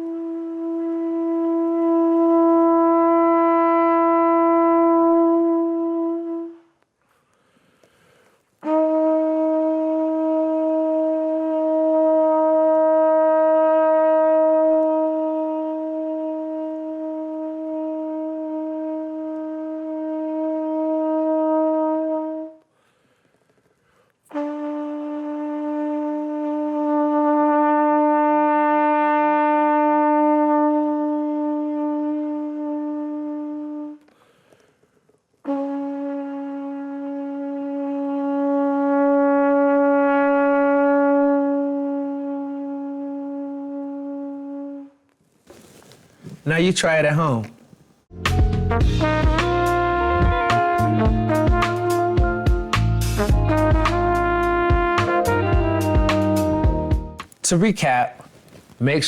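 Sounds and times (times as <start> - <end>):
trumpet long sustained tones: 0.0 - 6.7, 8.6 - 22.6, 24.3 - 34.1, 35.5 - 45.0, 48.7 - 57.1.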